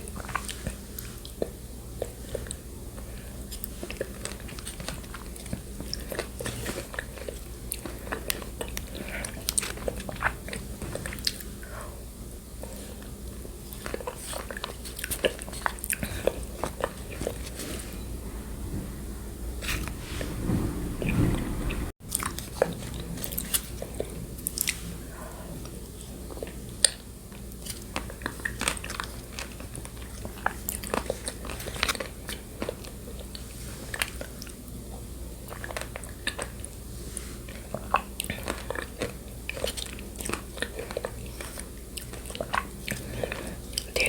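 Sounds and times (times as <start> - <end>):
wet chewing: 0.0 - 19.0, 21.0 - 44.0.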